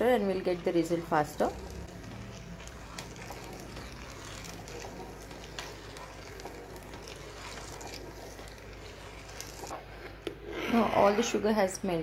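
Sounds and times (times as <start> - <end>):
spatula swishing in pan: 0.0 - 11.4.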